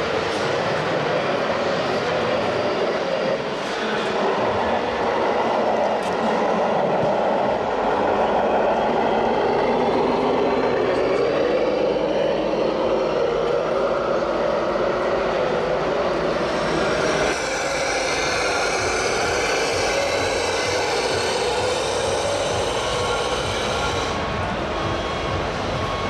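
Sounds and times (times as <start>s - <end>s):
model trucks mechanical whine: 0.0s - 26.0s.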